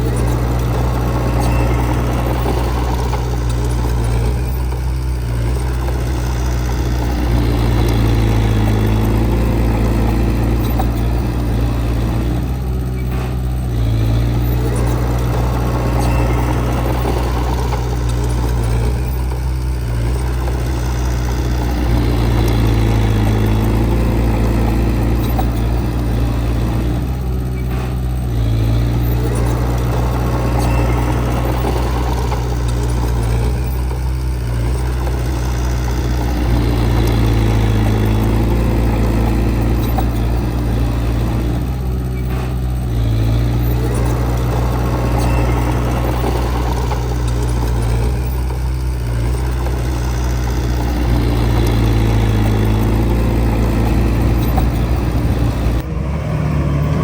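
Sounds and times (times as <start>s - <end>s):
diesel engine of earthmoving equipment: 0.0s - 57.0s.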